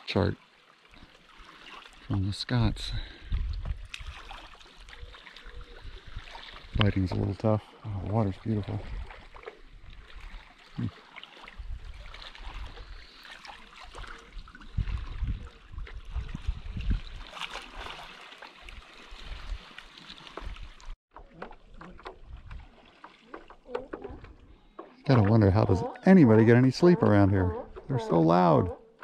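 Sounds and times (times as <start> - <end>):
small waves lapping against rocks: 0.4 - 2.1, 3.0 - 25.1.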